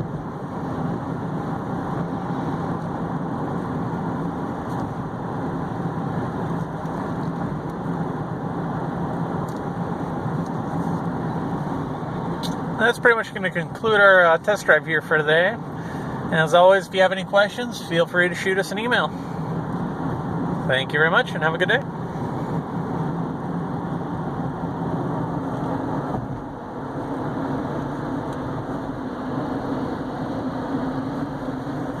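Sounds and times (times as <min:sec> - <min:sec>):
car engine hum: 0:00.0 - 0:32.0
road and tyre rush: 0:00.0 - 0:32.0.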